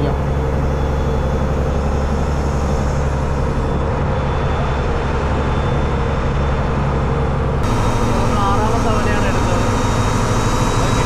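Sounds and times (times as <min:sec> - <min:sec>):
boat diesel engine humming: 0:00.0 - 0:11.0.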